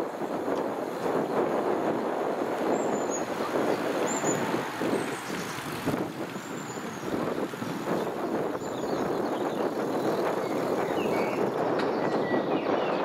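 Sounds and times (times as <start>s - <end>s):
bicycle riding on tarmac: 0.0s - 13.0s.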